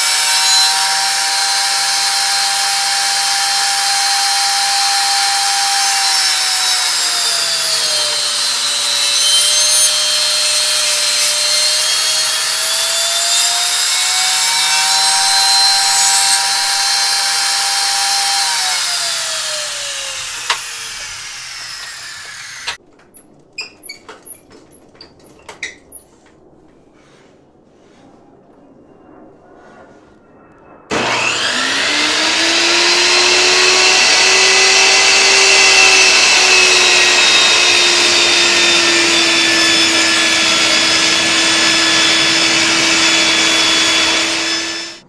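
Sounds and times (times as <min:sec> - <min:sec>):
saw blade spinning down: 0:00.0 - 0:22.8, 0:30.9 - 0:45.0
table saw whining: 0:00.0 - 0:22.8, 0:30.9 - 0:45.0.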